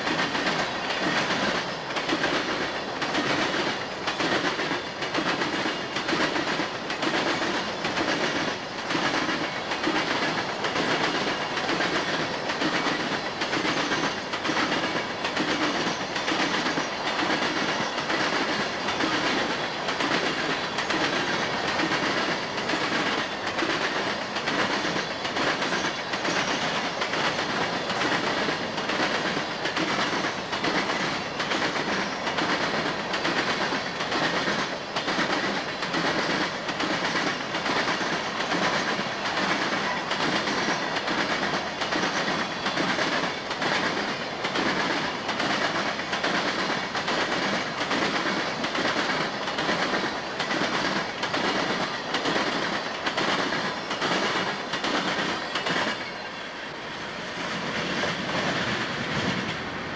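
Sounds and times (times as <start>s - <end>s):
rumble of rolling train cars: 0.0s - 59.9s
train wheels clicking on rail joints: 0.0s - 59.9s.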